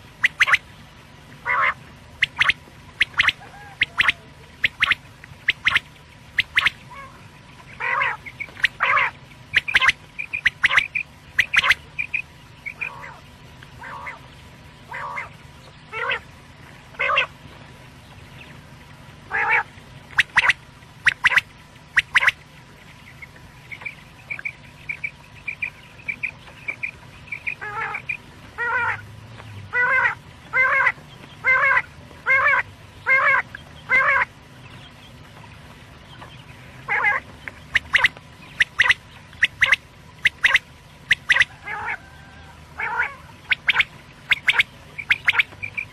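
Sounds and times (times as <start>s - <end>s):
faint steady hum: 0.0s - 45.9s
quail calling: 0.2s - 0.7s, 1.4s - 16.3s, 16.9s - 17.4s, 19.3s - 22.4s, 23.1s - 29.1s, 29.7s - 35.0s, 36.1s - 45.9s.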